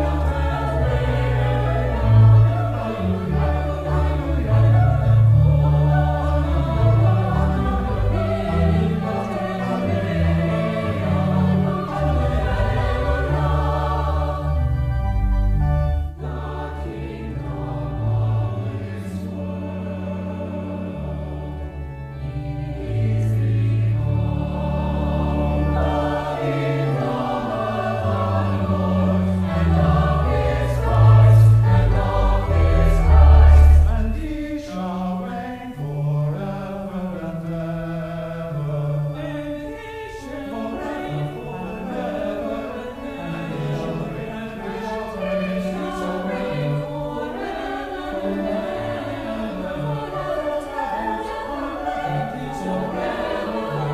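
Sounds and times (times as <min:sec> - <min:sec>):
choir singing: 0:00.0 - 0:53.9
deep organ pedal notes: 0:00.0 - 0:53.9
organ playing: 0:00.0 - 0:53.9.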